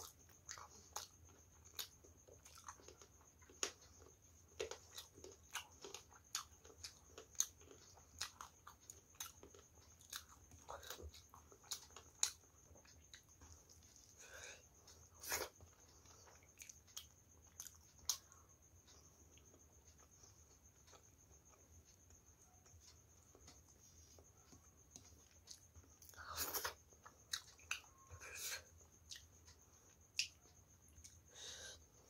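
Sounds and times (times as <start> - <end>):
chewing: 0.0 - 31.3.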